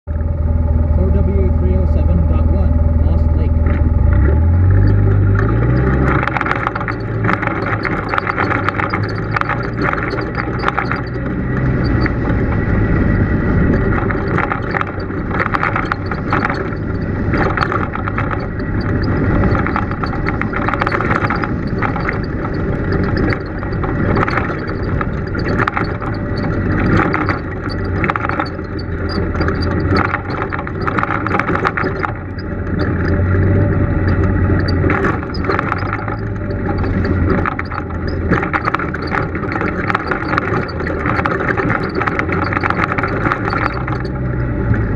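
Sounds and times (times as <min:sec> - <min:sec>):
off-road vehicle engine running: 0:00.0 - 0:44.9
knocks and rattles on bumpy ground: 0:03.3 - 0:44.9.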